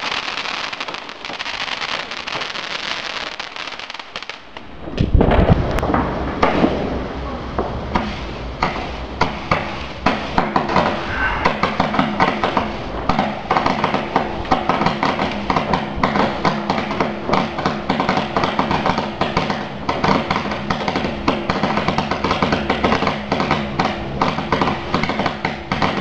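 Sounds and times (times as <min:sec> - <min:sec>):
fireworks popping and crackling: 0:00.0 - 0:26.0.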